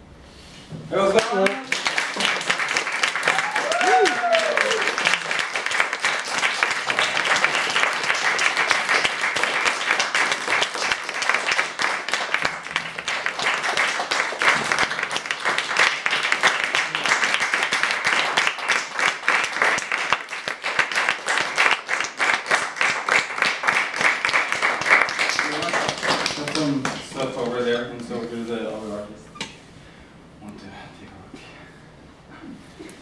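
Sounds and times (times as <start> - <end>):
audience applauding: 1.2 - 27.6
close hand claps: 1.2 - 27.6.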